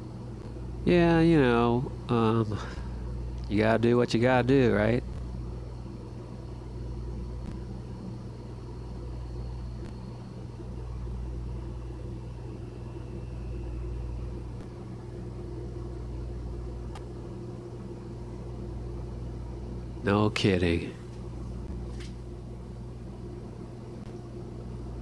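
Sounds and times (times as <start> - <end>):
electric kettle heating water: 0.0 - 25.0.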